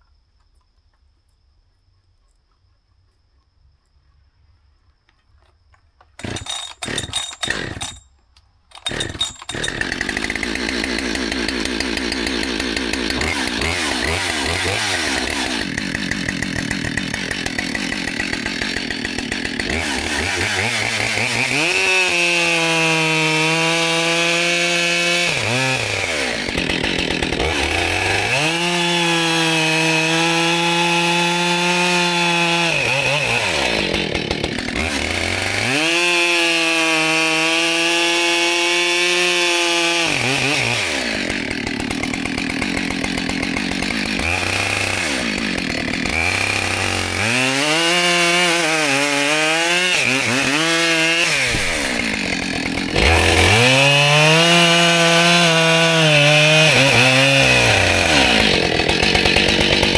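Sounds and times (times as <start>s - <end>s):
chainsaw cutting a log: 6.2s - 8.1s, 8.7s - 59.9s
chainsaw idling: 6.2s - 8.1s, 8.7s - 59.9s.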